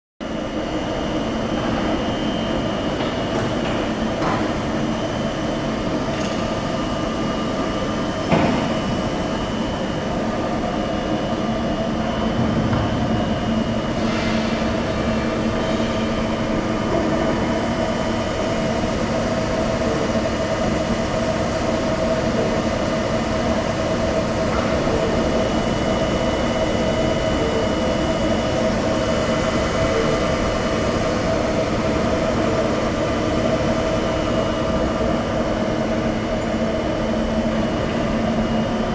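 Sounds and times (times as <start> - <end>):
lathe machine hum: 0.2 - 38.9.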